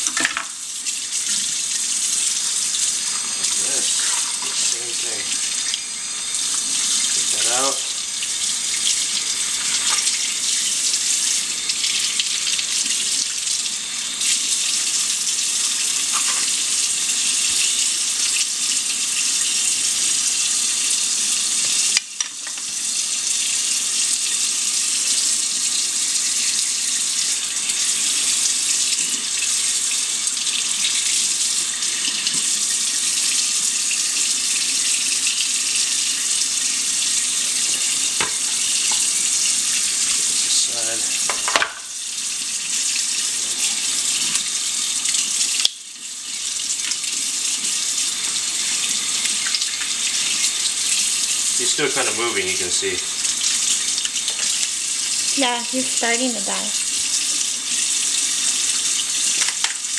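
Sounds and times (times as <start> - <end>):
faucet running into sink: 0.0 - 59.9.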